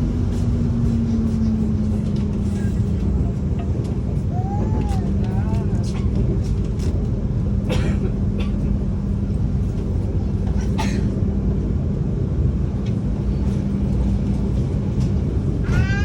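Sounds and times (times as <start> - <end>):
constant low hum: 0.0 - 16.0
train rumbling inside carriage: 0.0 - 16.0.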